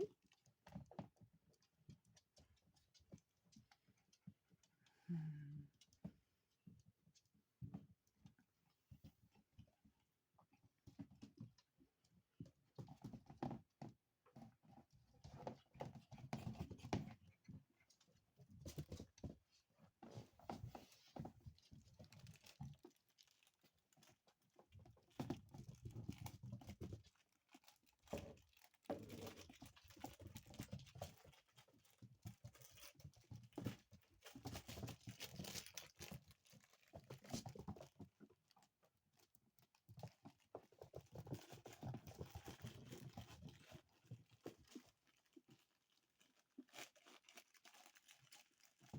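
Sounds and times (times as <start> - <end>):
puppies scuffling and rustling: 0.2 - 4.7, 6.0 - 48.9
paws pattering and clicking: 0.2 - 4.8, 10.4 - 48.9.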